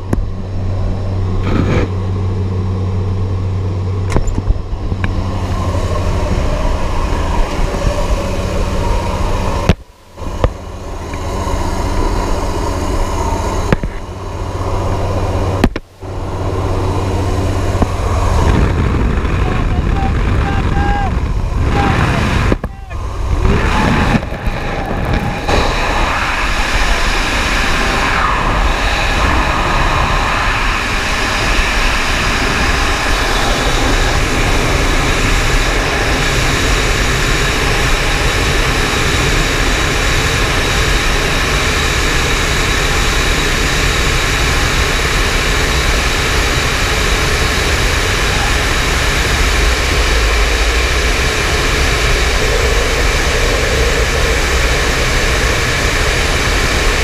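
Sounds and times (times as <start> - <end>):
wind rushing during freefall: 0.0 - 57.0.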